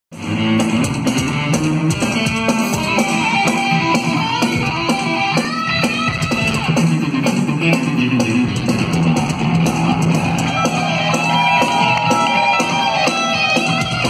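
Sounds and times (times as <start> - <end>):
live heavy metal guitar solo: 0.2 - 14.0.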